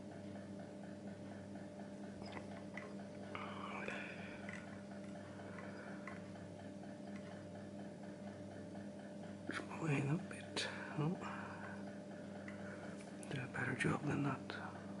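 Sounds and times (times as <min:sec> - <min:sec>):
low hum: 0:00.0 - 0:15.0
fast regular ticking: 0:00.4 - 0:15.0.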